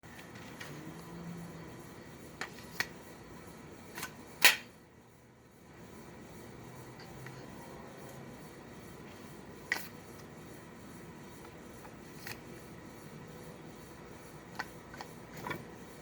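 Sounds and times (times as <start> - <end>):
faint room background noise: 0.0 - 16.0.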